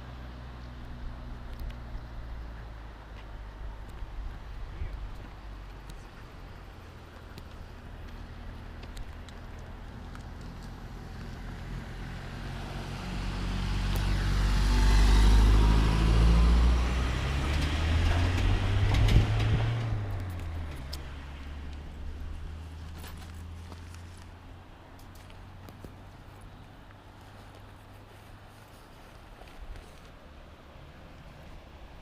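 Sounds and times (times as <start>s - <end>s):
vehicle passing by: 0.0s - 29.0s.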